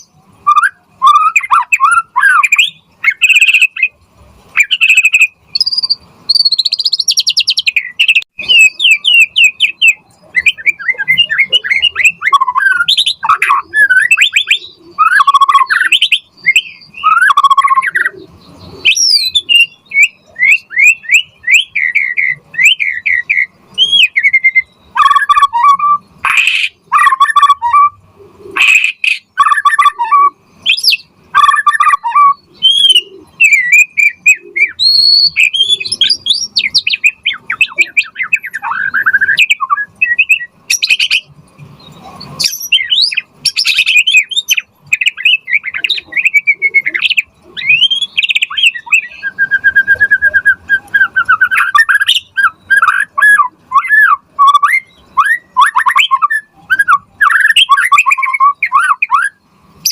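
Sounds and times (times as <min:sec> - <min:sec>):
songbird singing whistles and trills: 0:00.0 - 0:59.9
harsh rasping bird phrases: 0:07.5 - 0:59.3.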